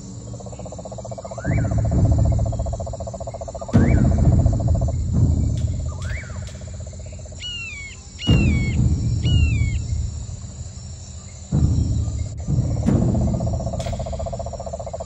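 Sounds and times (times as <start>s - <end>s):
birds calling: 0.0s - 15.0s
low rumble of noise: 0.0s - 15.0s
pulsing insect trill: 0.0s - 15.0s.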